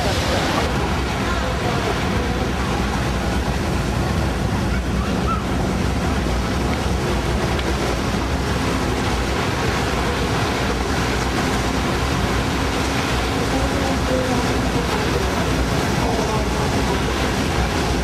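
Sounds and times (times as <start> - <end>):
rushing sea water: 0.0 - 18.0
ship engines rumbling: 0.0 - 18.0.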